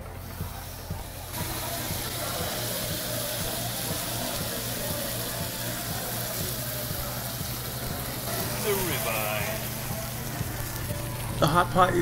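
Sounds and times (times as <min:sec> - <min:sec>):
steak sizzling on a grill: 0:00.1 - 0:12.0.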